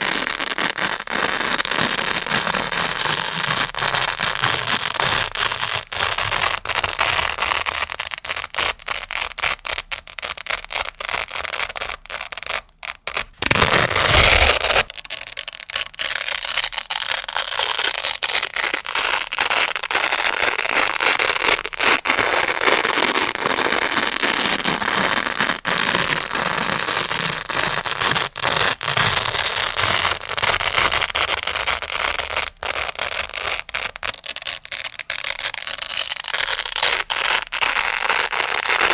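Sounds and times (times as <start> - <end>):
velcro being scratched: 0.0 - 38.9.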